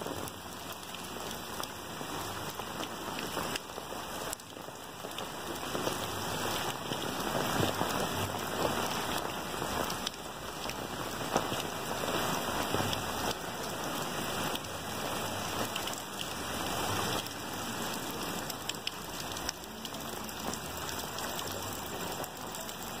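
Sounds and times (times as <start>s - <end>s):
heavy rain on standing water: 0.0s - 23.0s.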